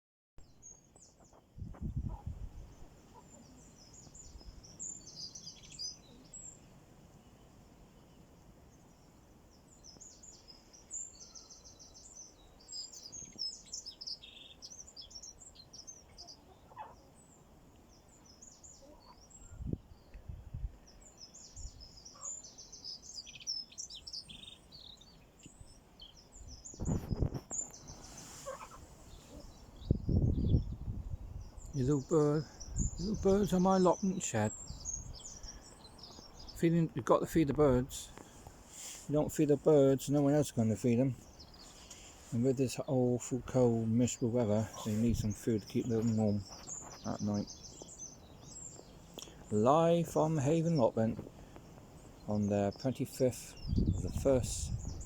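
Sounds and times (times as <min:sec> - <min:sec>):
small birds chirping: 0:00.4 - 0:55.0.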